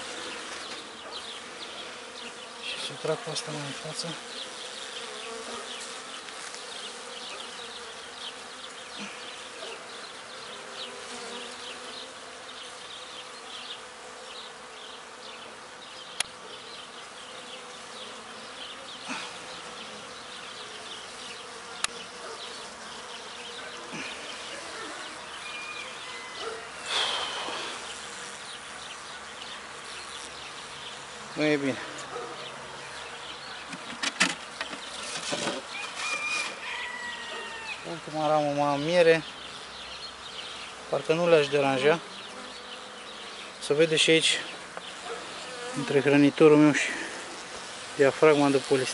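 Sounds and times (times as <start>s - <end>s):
bees buzzing: 0.0s - 48.9s.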